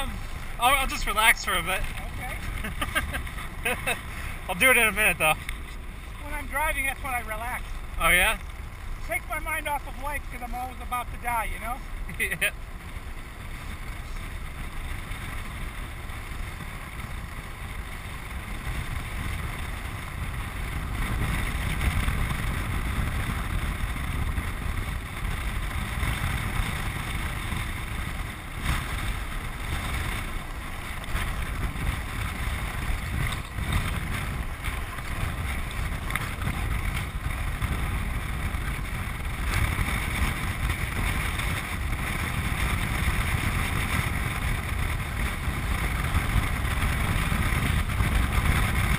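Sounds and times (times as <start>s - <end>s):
rumble and hiss of travel: 0.0s - 48.9s
wind buffeting the microphone: 0.0s - 48.9s.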